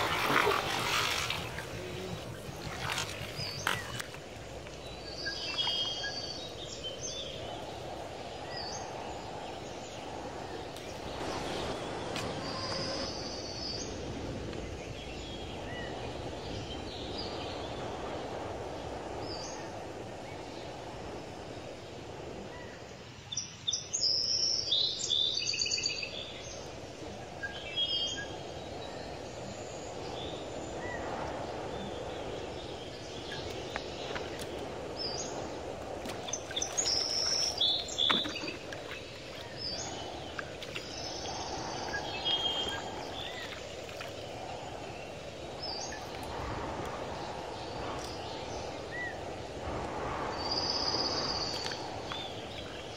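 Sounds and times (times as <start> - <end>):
birds calling in high chirps: 0.0 - 20.7, 22.5 - 52.9
outdoor background hiss: 0.0 - 52.9.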